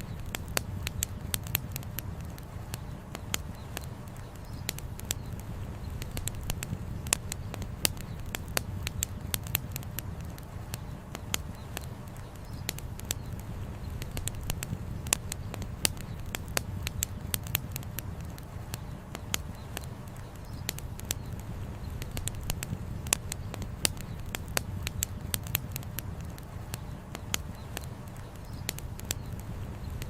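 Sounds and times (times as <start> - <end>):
campfire crackling and popping: 0.0 - 30.0
low fire rumble: 0.0 - 30.0.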